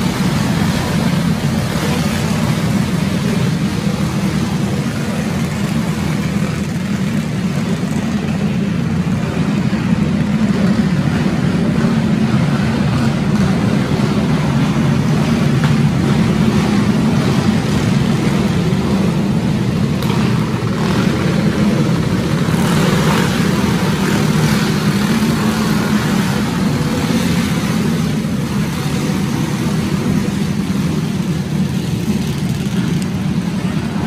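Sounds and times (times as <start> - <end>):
kart engines running steadily: 0.0 - 34.0.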